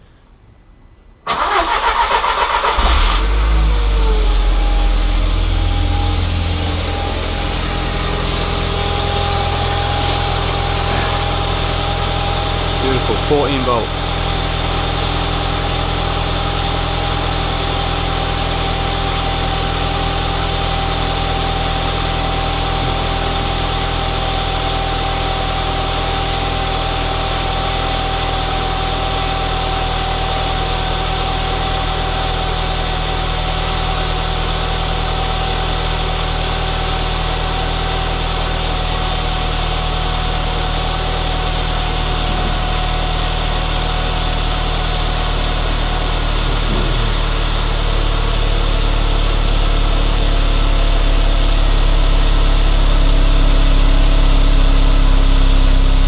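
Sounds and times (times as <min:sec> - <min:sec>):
car engine idling with whine: 0:00.0 - 0:56.0.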